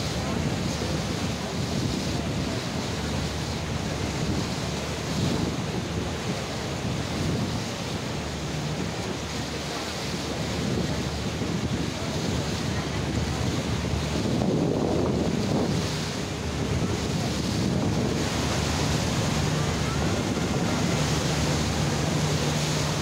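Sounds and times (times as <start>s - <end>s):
rushing wind and water: 0.0s - 23.0s
wind buffeting microphone: 0.0s - 23.0s.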